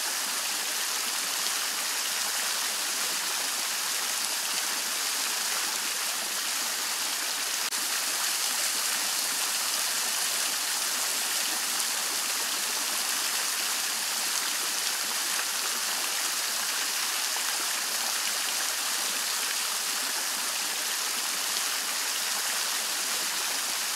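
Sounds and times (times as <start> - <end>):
fountain water splashing: 0.0 - 23.9.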